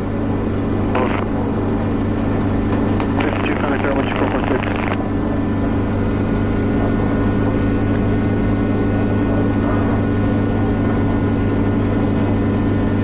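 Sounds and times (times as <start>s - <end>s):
helicopter engine and rotor droning: 0.0s - 13.0s.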